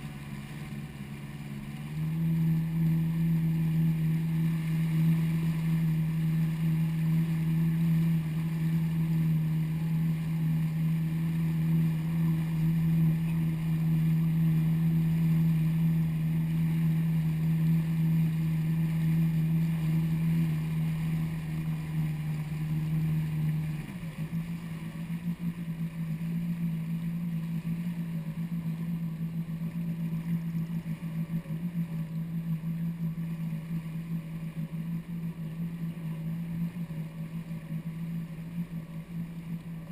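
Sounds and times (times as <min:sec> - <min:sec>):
jet ski engine hum: 0:00.0 - 0:39.9
rushing water: 0:00.0 - 0:39.9.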